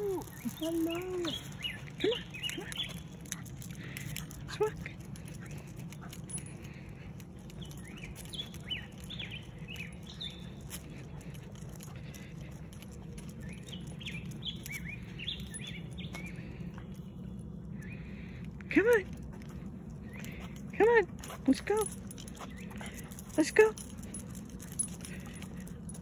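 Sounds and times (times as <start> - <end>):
songbird chirping: 0.0 - 25.7
steady low rumble: 0.0 - 26.0.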